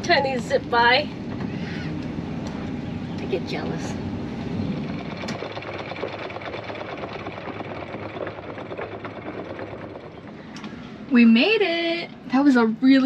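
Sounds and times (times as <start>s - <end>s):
boat engine clattering: 0.0s - 13.0s.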